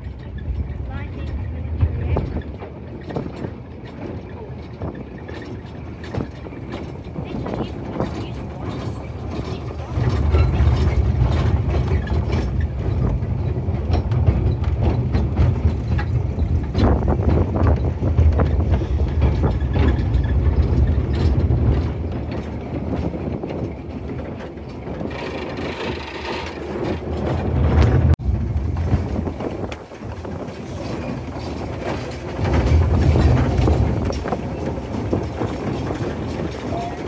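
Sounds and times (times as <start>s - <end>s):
train wheels clattering on rails: 0.0s - 37.0s
wind buffeting microphone: 0.0s - 37.0s.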